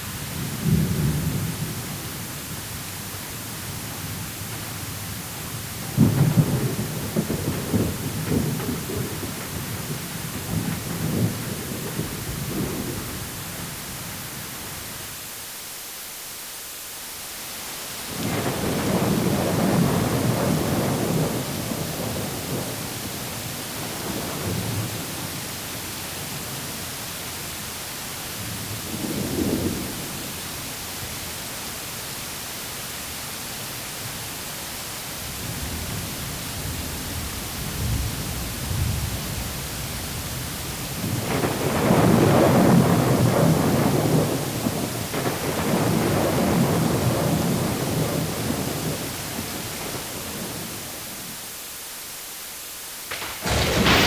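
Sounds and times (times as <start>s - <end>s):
rain hissing: 0.0s - 54.0s
rolling thunder: 0.1s - 14.8s, 18.1s - 26.8s, 28.4s - 31.2s, 35.3s - 51.3s, 53.1s - 54.0s.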